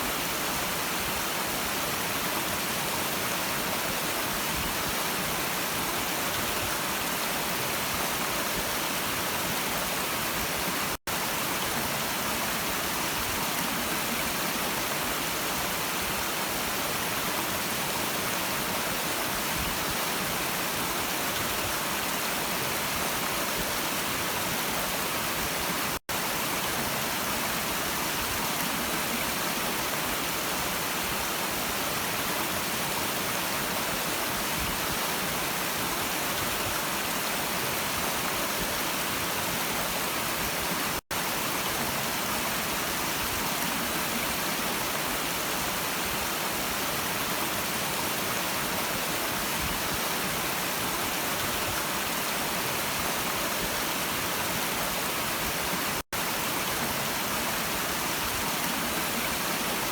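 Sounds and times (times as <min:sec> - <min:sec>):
stream of water running: 0:00.0 - 0:59.9.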